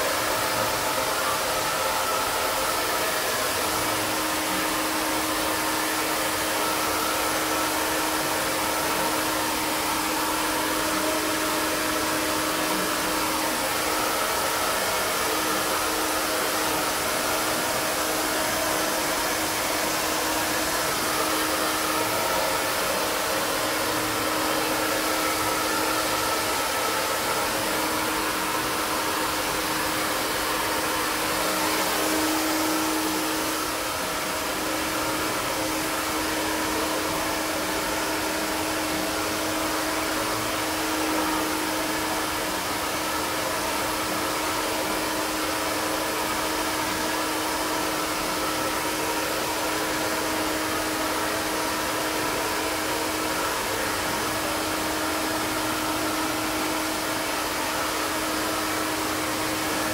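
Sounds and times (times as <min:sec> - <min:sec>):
blower fan motor hum: 0:00.0 - 0:59.9.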